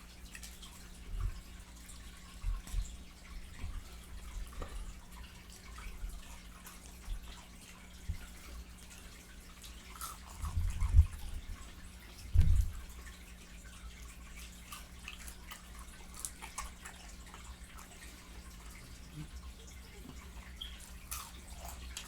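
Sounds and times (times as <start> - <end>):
wet chewing and lip-smacking: 0.1 - 22.0.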